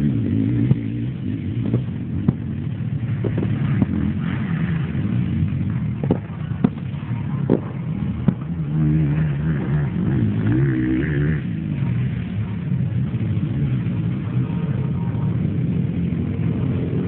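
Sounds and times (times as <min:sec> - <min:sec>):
off-road racing engines: 0:00.0 - 0:17.0.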